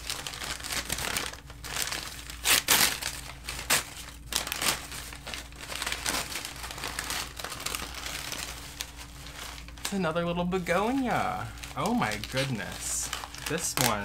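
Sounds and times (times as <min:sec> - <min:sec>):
paper crinkling and rustling: 0:00.0 - 0:14.0.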